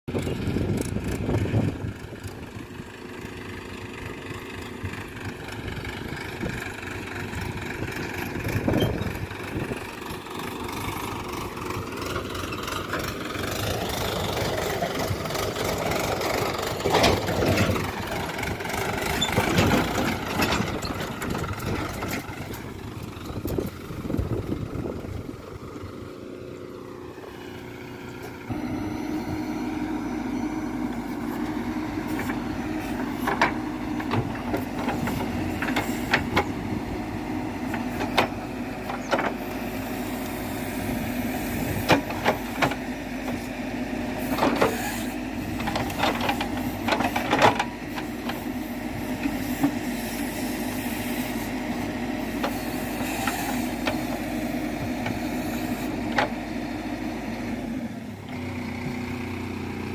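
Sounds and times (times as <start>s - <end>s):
diesel engines running: 0.1s - 59.9s.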